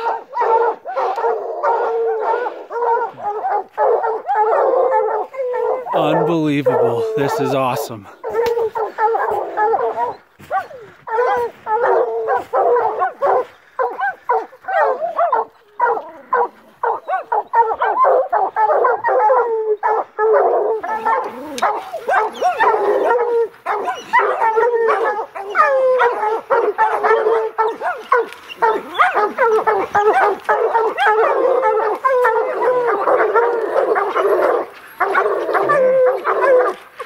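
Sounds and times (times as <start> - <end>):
dogs barking and baying: 0.0 - 37.0.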